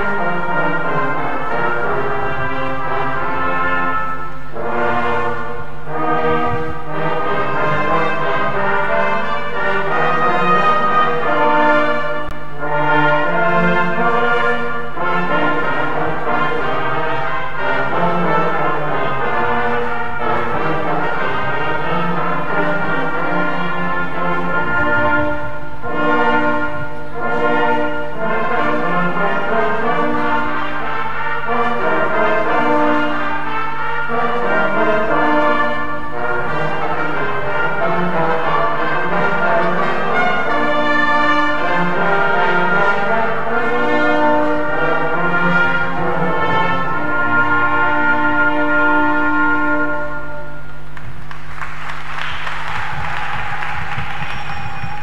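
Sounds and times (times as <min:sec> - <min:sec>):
brass band playing held chords: 0:00.0 - 0:55.0.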